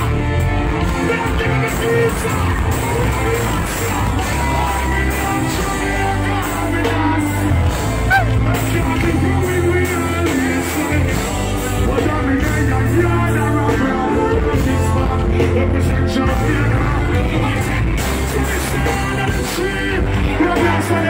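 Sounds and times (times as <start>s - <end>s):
live music with deep bass: 0.0s - 21.0s
person singing: 0.0s - 21.0s.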